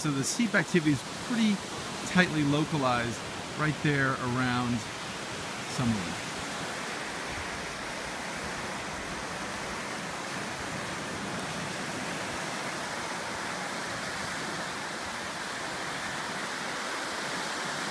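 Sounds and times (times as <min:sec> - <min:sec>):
surf washing up a shore: 0:00.0 - 0:17.9.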